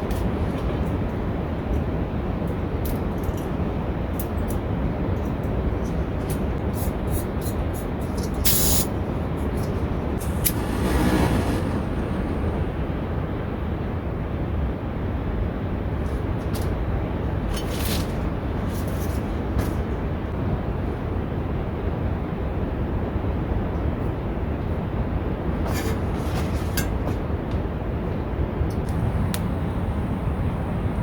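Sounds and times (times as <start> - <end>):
wind rumbling on microphone: 4.7 - 31.0.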